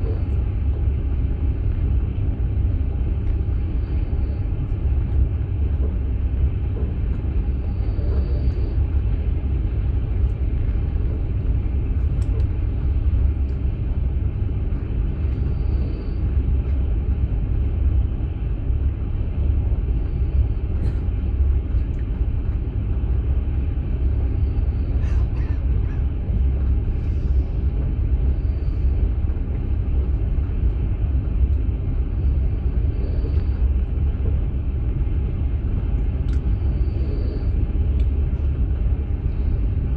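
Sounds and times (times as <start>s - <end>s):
train rumble from inside carriage: 0.0s - 39.9s.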